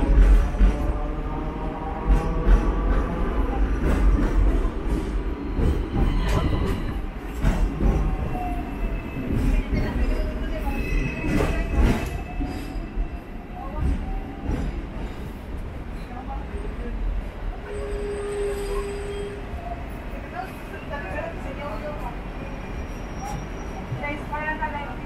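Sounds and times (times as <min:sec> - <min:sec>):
tram rumbling: 0:00.0 - 0:25.0.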